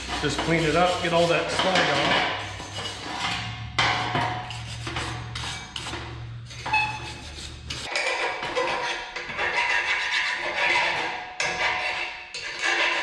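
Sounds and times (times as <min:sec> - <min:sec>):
wire brush scrubbing steel: 0:00.0 - 0:03.5, 0:04.4 - 0:13.0.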